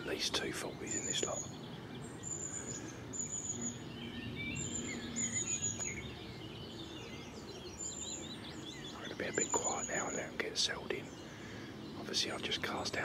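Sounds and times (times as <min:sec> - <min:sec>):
small birds singing: 0:00.0 - 0:13.0.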